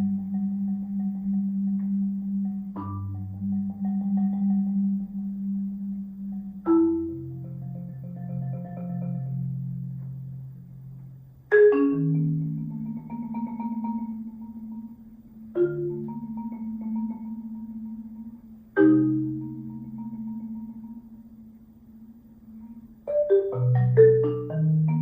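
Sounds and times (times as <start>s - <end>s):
accented marimba strikes: 0.0s - 25.0s
marimba rolls: 0.0s - 25.0s.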